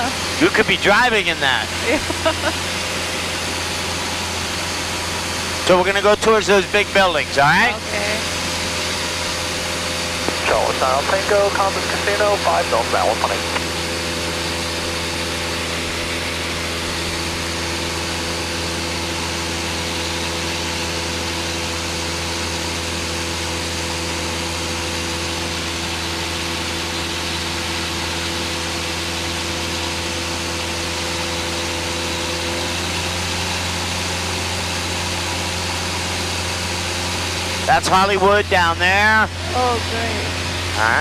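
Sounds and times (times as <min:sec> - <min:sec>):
propeller plane engine droning: 0:00.0 - 0:41.0.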